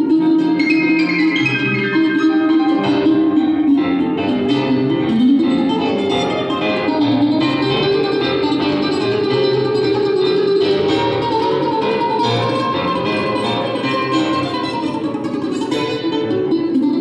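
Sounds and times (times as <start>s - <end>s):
piano playing: 0.0s - 17.0s
plucked mandolin notes: 0.0s - 17.0s.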